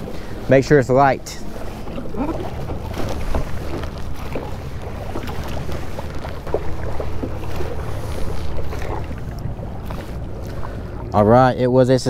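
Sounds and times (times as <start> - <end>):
paddle splashing in water: 0.0 - 11.2
wind rumble on microphone: 0.0 - 12.0.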